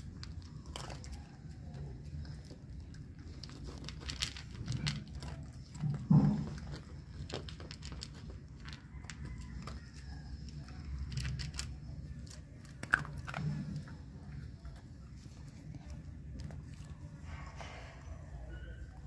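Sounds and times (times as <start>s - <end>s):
dog crunching dry kibble: 0.0s - 17.3s.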